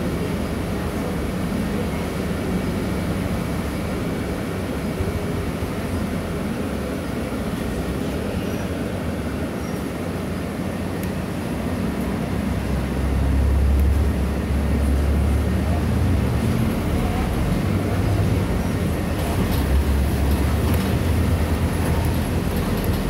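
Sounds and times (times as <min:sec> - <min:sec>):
engine and road noise drone: 0:00.0 - 0:23.0
tyres on wet road: 0:00.0 - 0:23.0.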